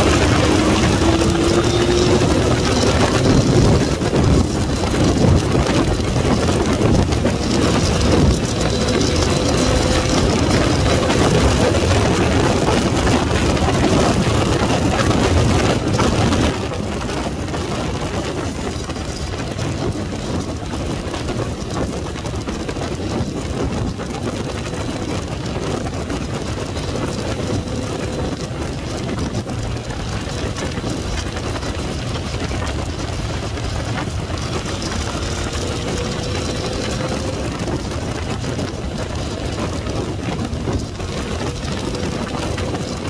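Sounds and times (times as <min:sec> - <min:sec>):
motorcycle engine accelerating: 0:00.0 - 0:43.0
wind rushing over microphone: 0:00.0 - 0:43.0.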